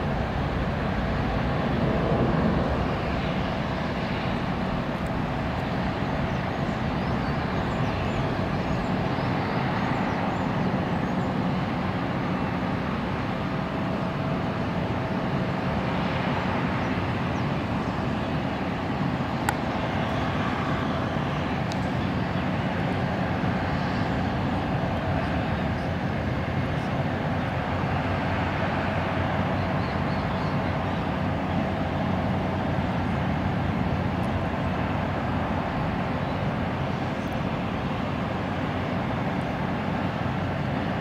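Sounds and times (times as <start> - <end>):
jet engines at takeoff: 0.0 - 41.0.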